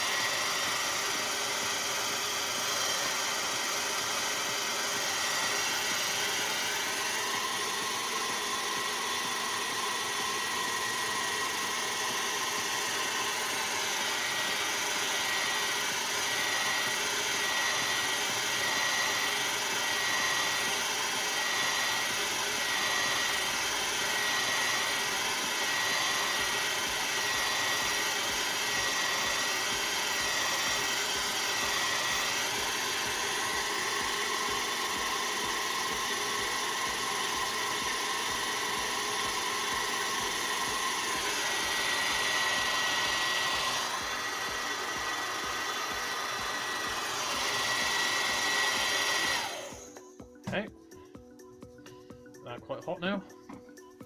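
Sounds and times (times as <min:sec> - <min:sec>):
heat gun fan whining: 0:00.0 - 0:50.6.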